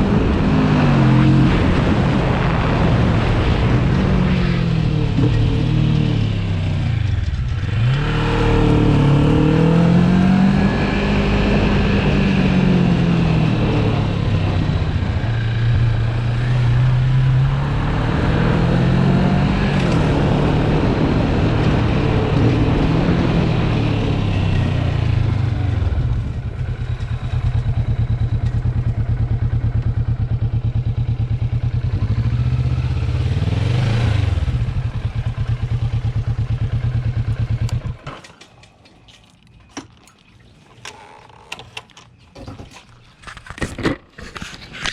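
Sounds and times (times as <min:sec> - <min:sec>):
motorcycle engine revving: 0:00.0 - 0:38.4.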